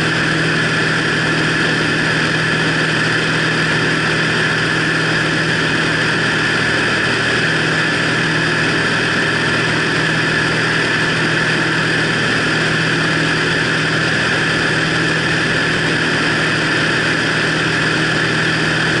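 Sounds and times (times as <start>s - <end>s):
light aircraft engine droning: 0.0s - 19.0s.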